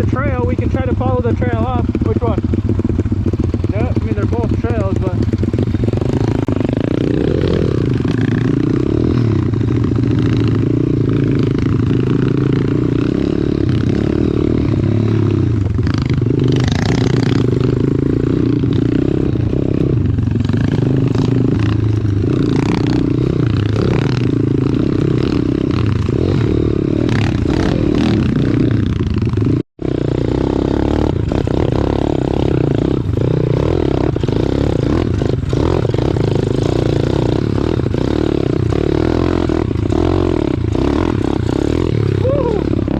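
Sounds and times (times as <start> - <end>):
single-cylinder motorbike engine: 0.0 - 42.9.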